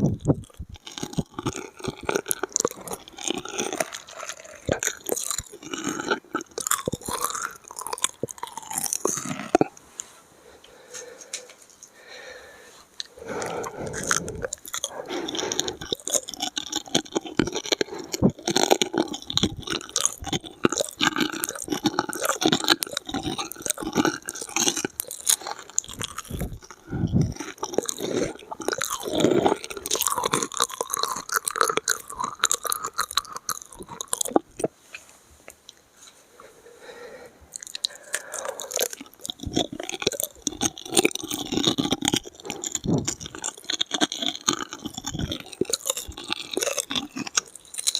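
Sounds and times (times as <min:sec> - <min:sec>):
wet mouth clicks: 0:00.0 - 0:09.8, 0:13.0 - 0:34.8, 0:37.5 - 0:47.9
chewing crunchy food: 0:00.0 - 0:10.1, 0:13.0 - 0:36.2, 0:37.5 - 0:47.9.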